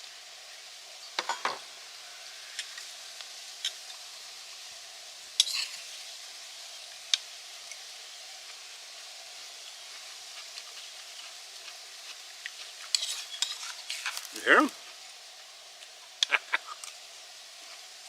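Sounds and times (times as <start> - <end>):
steak sizzling: 0.0 - 18.0.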